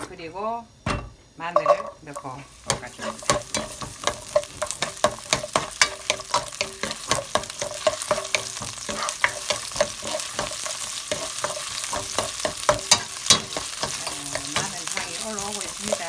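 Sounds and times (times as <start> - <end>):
garlic sizzling in oil: 1.3 - 16.0
wooden spatula scraping pan: 2.2 - 16.0.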